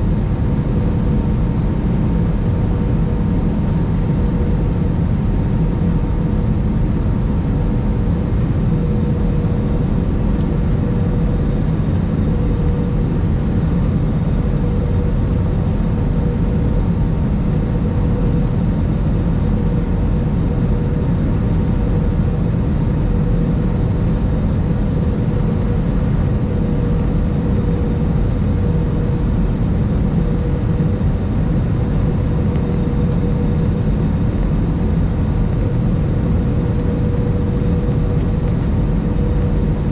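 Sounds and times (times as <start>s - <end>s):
constant hum: 0.0s - 39.9s
aircraft cabin air rush: 2.6s - 39.9s.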